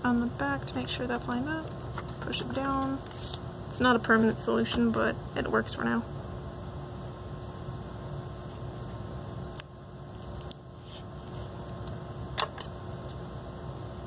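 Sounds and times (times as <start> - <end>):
faint constant tone: 0.0 - 14.0
ventilation hum: 0.0 - 14.0.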